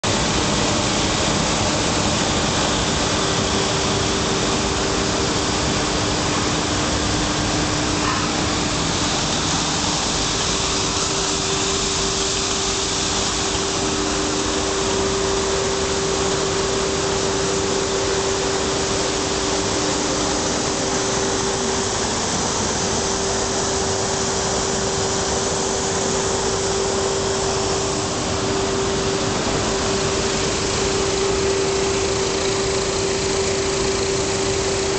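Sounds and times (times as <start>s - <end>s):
machinery humming: 0.0s - 34.9s.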